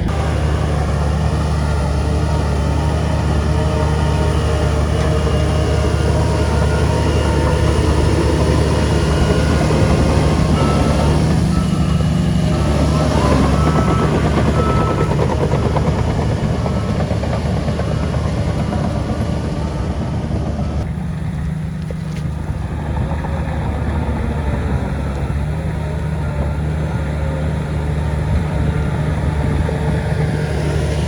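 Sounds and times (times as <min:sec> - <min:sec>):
diesel machinery engine hum: 0:00.0 - 0:31.0.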